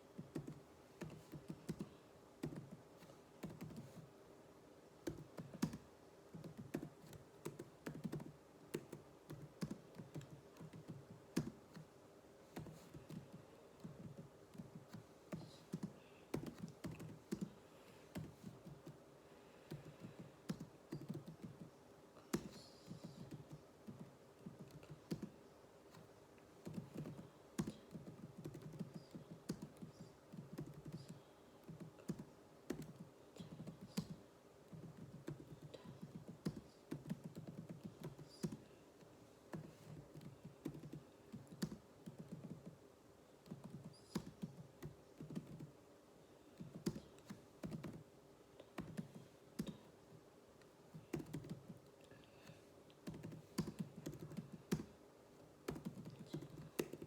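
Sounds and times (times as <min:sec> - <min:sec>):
keyboard typing: 0:00.2 - 0:04.1, 0:05.0 - 0:11.9, 0:12.5 - 0:19.0, 0:19.7 - 0:42.8, 0:43.4 - 0:45.7, 0:46.6 - 0:49.9, 0:50.9 - 0:51.9, 0:52.9 - 0:55.0, 0:55.7 - 0:57.0.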